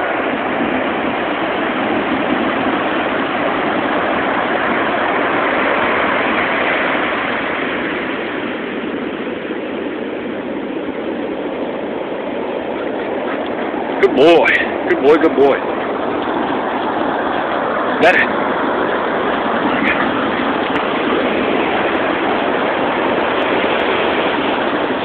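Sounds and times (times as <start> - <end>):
waves breaking on beach: 0.0 - 25.0.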